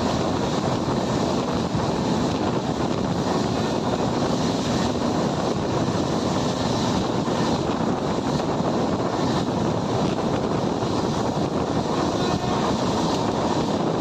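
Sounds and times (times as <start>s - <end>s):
moving train rumble: 0.0s - 14.0s
wind buffeting microphone: 0.0s - 14.0s.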